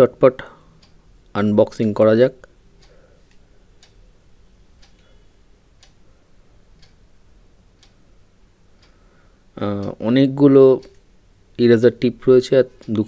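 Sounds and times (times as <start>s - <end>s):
clock ticking: 0.0s - 13.0s
low room hum: 0.0s - 13.0s.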